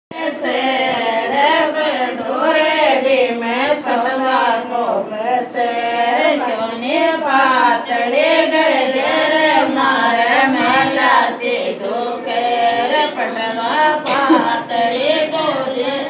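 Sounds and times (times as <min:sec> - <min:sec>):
women singing folk song: 0:00.1 - 0:16.0.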